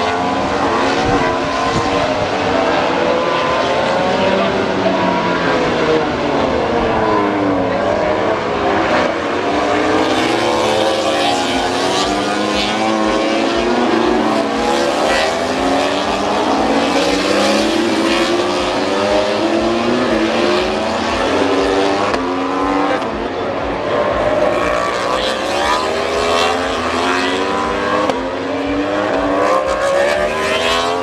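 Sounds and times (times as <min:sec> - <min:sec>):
racing motorcycles at high revs: 0:00.0 - 0:31.0.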